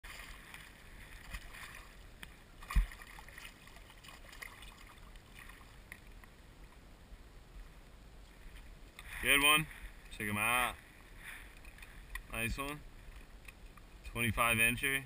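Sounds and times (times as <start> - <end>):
water lapping around kayak: 0.0 - 14.0.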